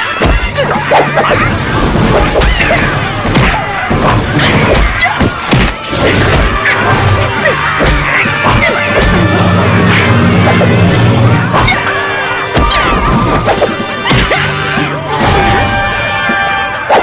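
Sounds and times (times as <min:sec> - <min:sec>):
soundtrack music: 0:00.0 - 0:17.0.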